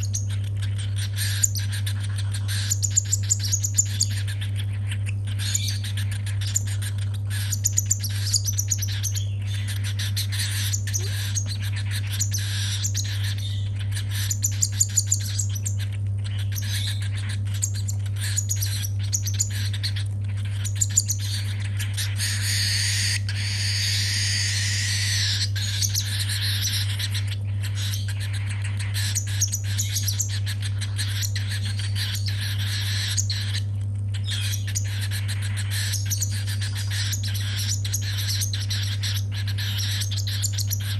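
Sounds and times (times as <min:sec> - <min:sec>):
chick begging chirps: 0:00.0 - 0:40.9
steady low hum: 0:00.0 - 0:40.9.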